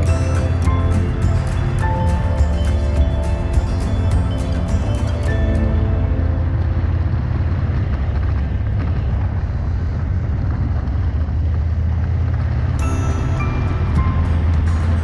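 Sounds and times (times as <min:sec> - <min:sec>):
motorcycle engine drone: 0:00.0 - 0:15.0
wind noise on microphone: 0:00.0 - 0:15.0.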